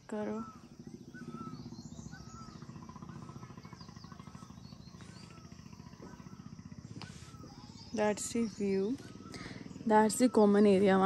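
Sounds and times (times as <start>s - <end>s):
high bird chirps: 0.0s - 11.0s
low fluttering hum: 0.0s - 11.0s.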